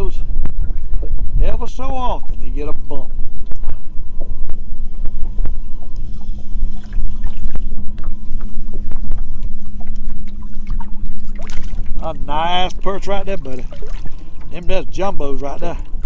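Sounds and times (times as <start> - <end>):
steady low hum: 0.0 - 16.0
wind rumbling on microphone: 0.0 - 16.0.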